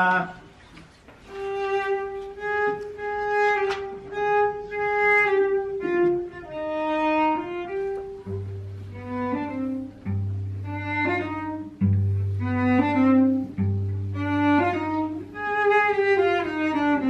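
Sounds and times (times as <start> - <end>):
solo cello slow melody: 1.1 - 17.0.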